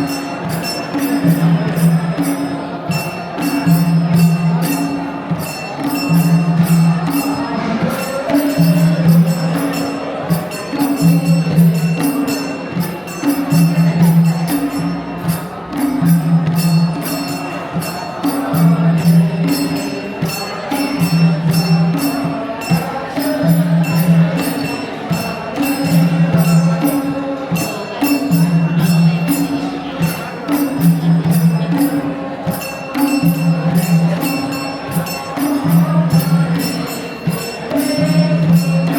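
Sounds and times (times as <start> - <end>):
jingling percussion: 0.0 - 38.9.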